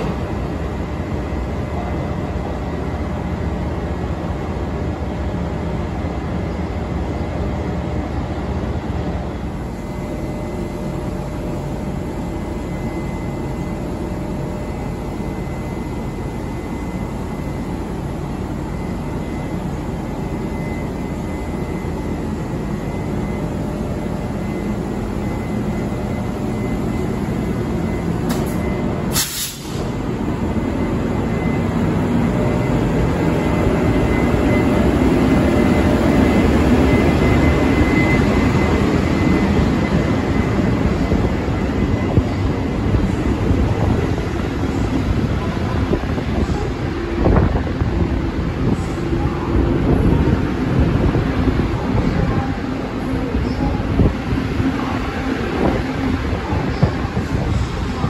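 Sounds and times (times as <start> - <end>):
electric locomotive hum: 0.0 - 58.0
locomotive whine: 0.0 - 58.0.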